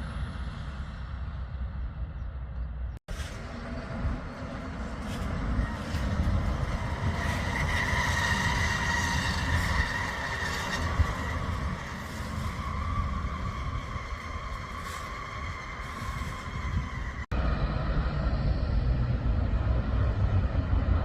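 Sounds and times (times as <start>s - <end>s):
train rumbling with high whine: 0.0s - 21.0s.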